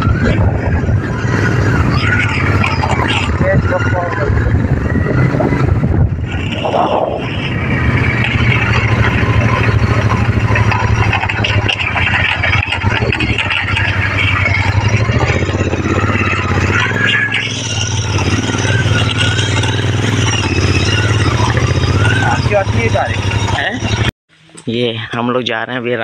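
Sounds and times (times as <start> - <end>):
motorbike engine running: 0.0 - 24.1.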